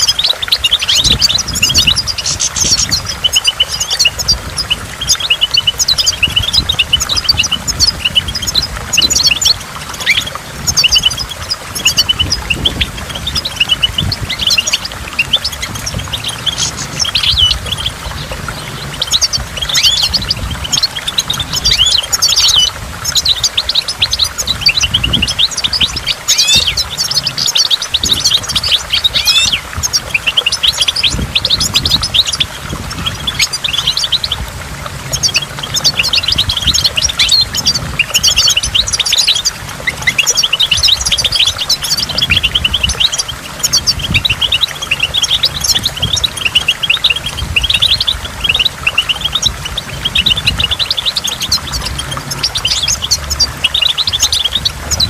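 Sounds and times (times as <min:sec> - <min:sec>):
goldfinch singing: 0:00.0 - 0:55.0.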